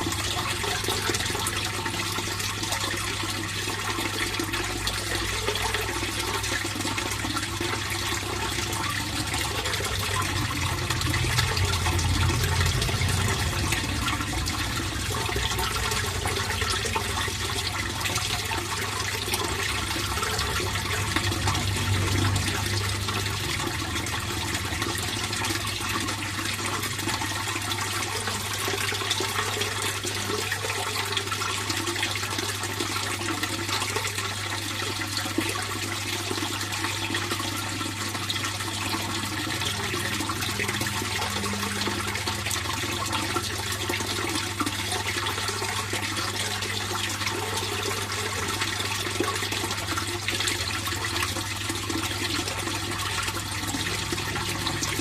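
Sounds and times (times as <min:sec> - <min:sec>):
water flowing and splashing: 0:00.0 - 0:55.0.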